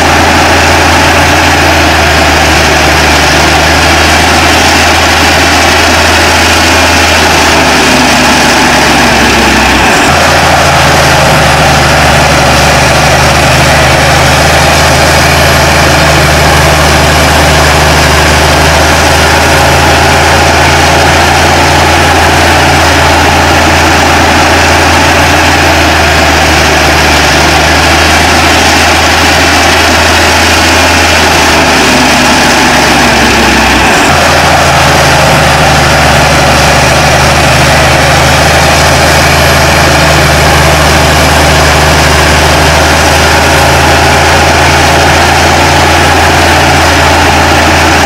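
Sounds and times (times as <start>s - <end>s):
diesel engine droning: 0.0s - 48.0s.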